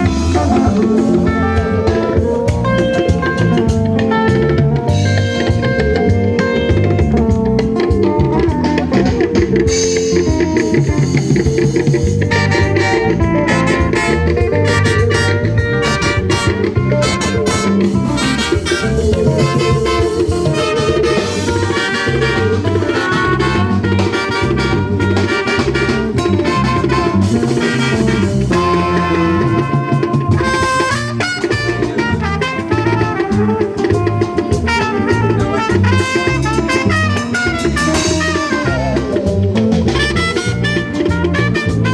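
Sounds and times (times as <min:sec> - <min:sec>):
band playing loud music: 0:00.0 - 0:41.9.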